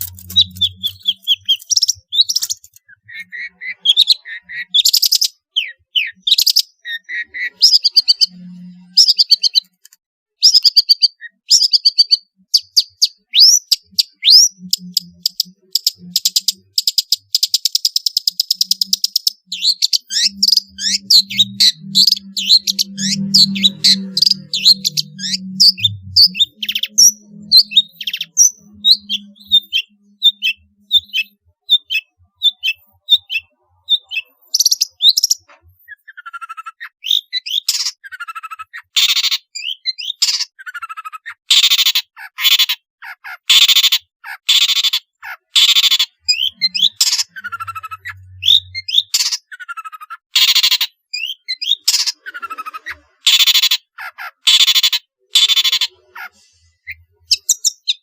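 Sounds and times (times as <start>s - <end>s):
bird high chirps: 0.0s - 58.0s.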